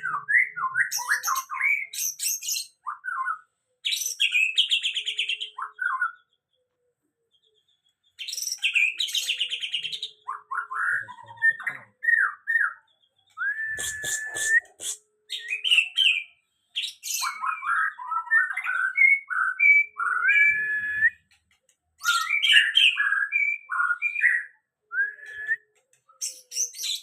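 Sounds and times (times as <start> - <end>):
bird singing whistled phrases: 0.0 - 6.3, 8.2 - 21.4, 22.0 - 27.0.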